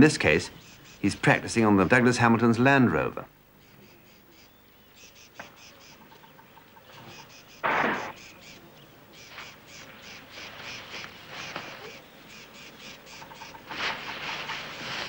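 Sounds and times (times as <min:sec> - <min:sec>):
insects chirping: 0:00.2 - 0:01.9, 0:03.3 - 0:15.0.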